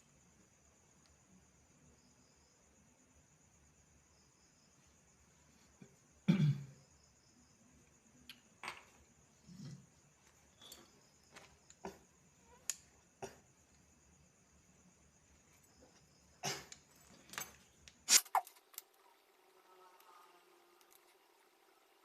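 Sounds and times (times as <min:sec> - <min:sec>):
faint high-pitched hum: 0:00.0 - 0:22.0.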